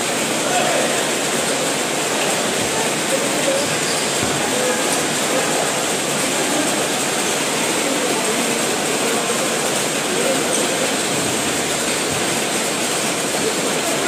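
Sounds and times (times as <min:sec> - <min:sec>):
crowd din: 0:00.0 - 0:14.0.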